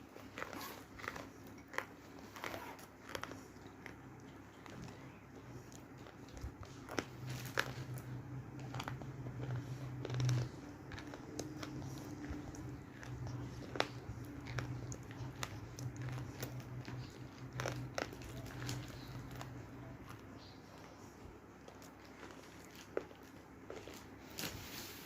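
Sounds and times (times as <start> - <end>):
clay being chewed crunchily: 0.0 - 24.6
steady low hum: 0.0 - 25.0.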